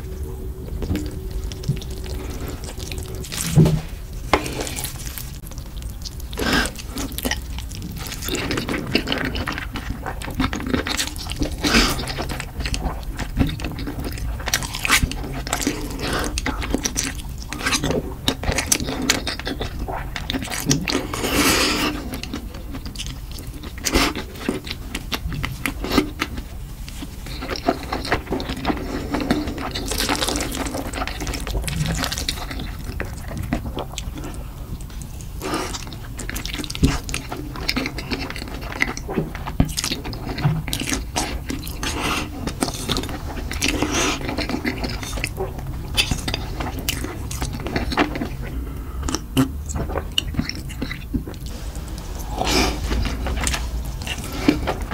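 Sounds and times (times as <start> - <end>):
noodles slurping: 0.0 - 26.3, 27.0 - 54.9
chewing with smacking clicks: 4.4 - 54.9.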